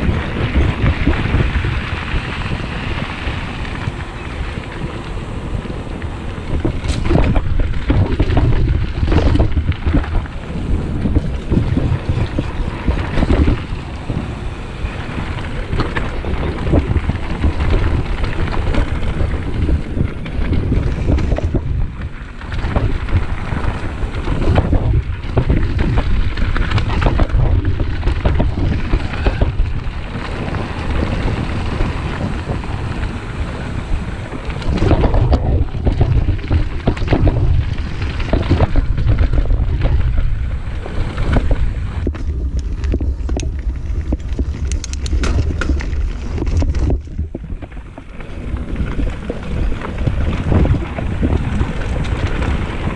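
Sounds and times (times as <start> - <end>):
bike rattling and knocking: 0.0 - 52.9
tyres crunching over gravel: 0.0 - 52.9
wind buffeting microphone: 0.0 - 52.9.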